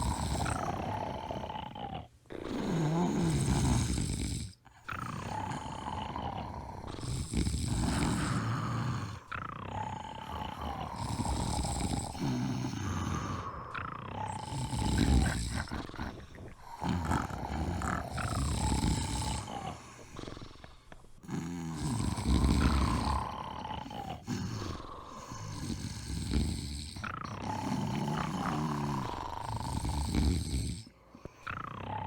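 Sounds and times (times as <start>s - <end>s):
person snoring with whistle: 0.0s - 32.0s.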